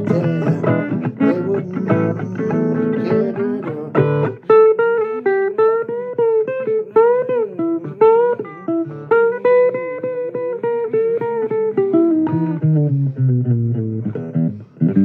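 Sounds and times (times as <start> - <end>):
blues guitar bent notes: 0.0 - 15.0.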